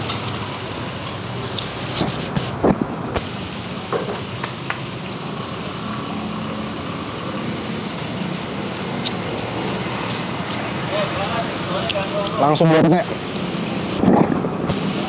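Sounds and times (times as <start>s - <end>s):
street traffic hum: 0.0s - 15.0s.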